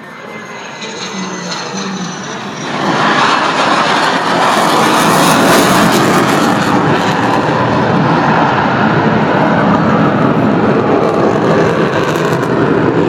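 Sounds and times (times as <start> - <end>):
jet engine roaring: 0.0 - 13.0.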